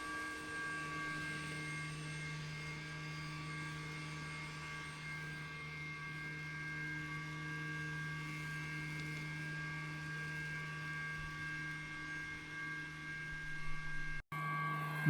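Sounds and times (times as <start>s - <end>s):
robot lawn mower motors humming: 0.0s - 14.2s.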